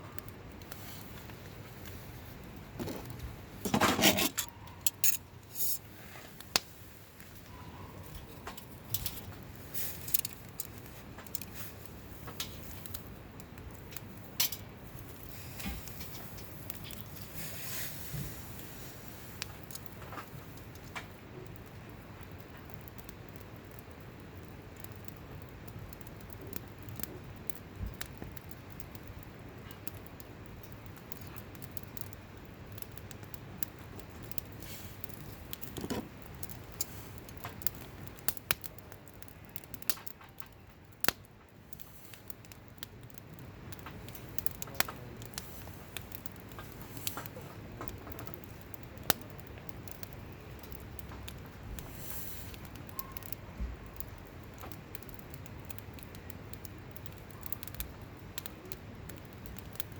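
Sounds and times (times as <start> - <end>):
campfire crackling and popping: 0.0 - 59.9
low steady hiss: 0.0 - 59.9.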